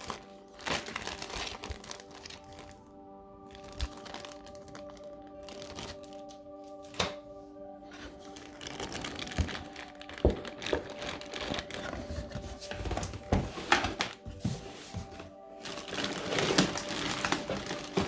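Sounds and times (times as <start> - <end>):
packaging being unpacked: 0.0 - 7.2, 7.8 - 18.0
background music with held notes: 0.0 - 18.0.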